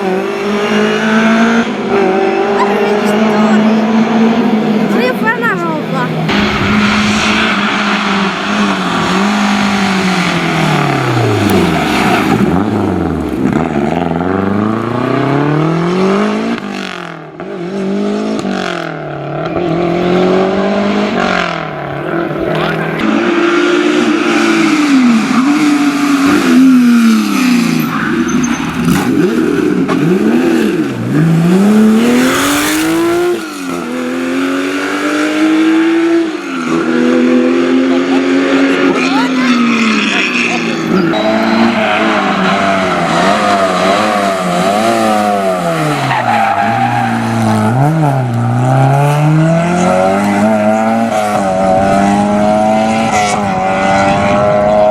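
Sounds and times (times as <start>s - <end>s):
rally car engine revving hard: 0.0s - 54.9s.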